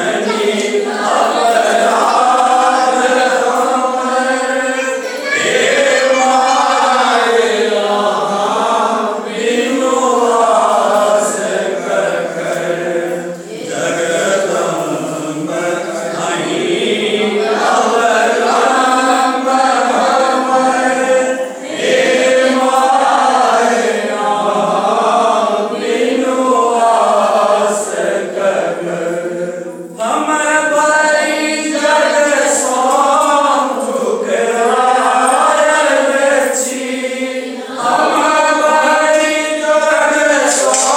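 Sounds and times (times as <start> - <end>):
group singing in unison: 0.0 - 40.9.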